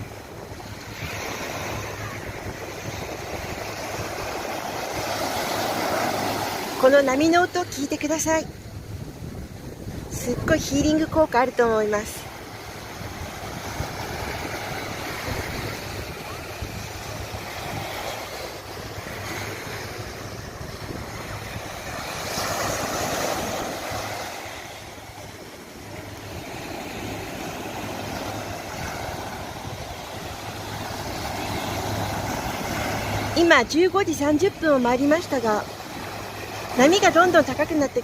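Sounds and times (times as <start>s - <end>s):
ocean surf breaking: 0.0s - 38.0s
wind noise on microphone: 0.0s - 38.0s.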